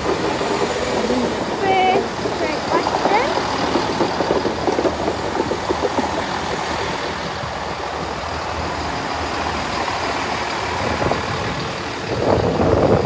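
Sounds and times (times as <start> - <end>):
diesel train engine and wheel rumble: 0.0 - 13.0.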